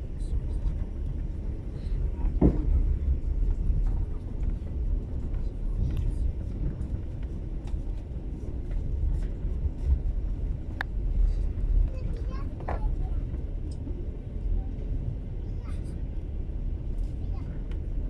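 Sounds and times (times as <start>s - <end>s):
train rumbling from inside carriage: 0.0s - 18.0s.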